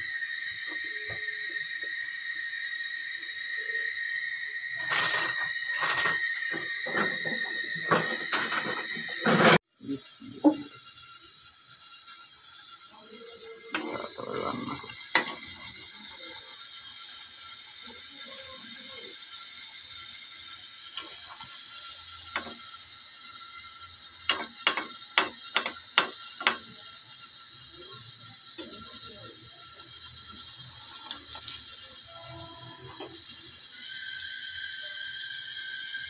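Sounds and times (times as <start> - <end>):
food sizzling in hot oil: 0.0 - 36.0.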